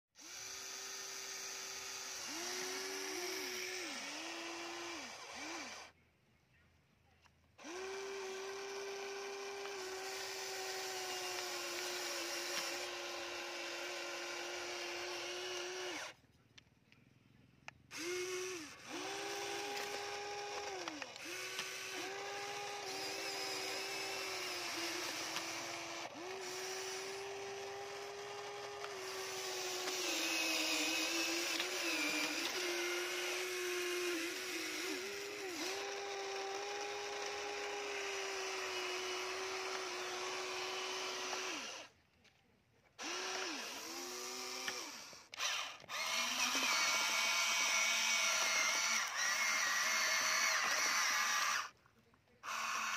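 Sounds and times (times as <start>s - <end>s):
toy excavator electric motors whining: 0.2s - 6.0s, 7.6s - 16.6s, 17.7s - 42.4s, 43.0s - 51.8s, 52.4s - 52.9s.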